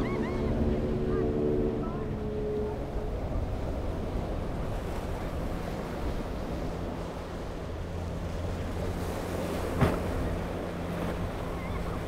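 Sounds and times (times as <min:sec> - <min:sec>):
boat engine droning: 0:00.0 - 0:12.0
rushing wash and surf: 0:00.0 - 0:12.0.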